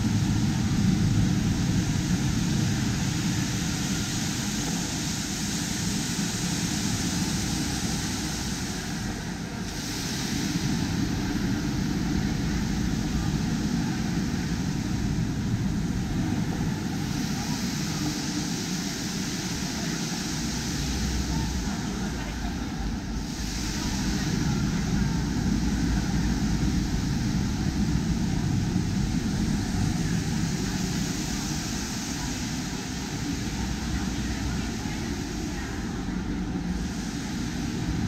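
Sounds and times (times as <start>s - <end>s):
even hiss: 0.0s - 38.0s.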